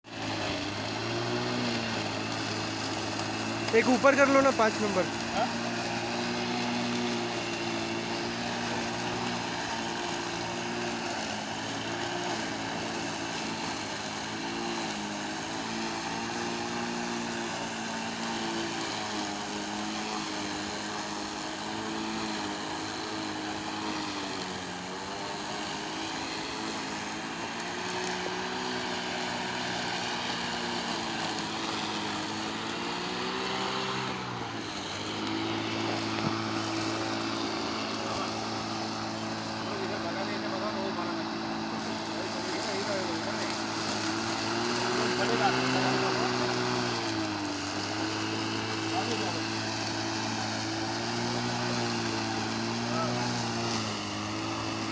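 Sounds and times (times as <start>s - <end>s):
electric lawn mower humming: 0.0s - 54.9s.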